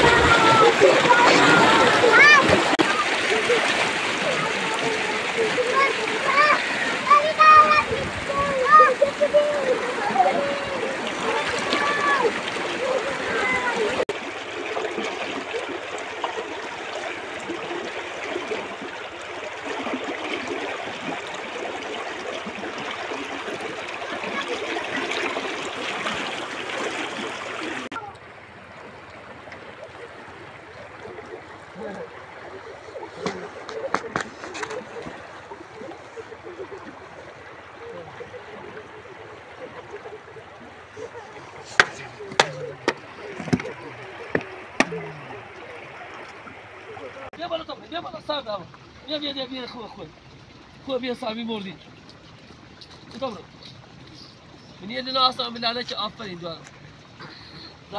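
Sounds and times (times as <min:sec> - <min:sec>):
water rushing along a canal: 0:00.0 - 0:57.9.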